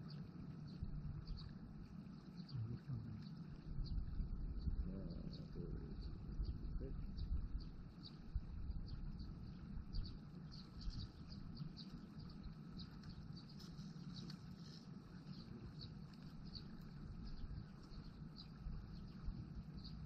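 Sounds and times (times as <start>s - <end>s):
small birds chirping: 0.0s - 20.0s
steady low rumble: 0.0s - 20.0s.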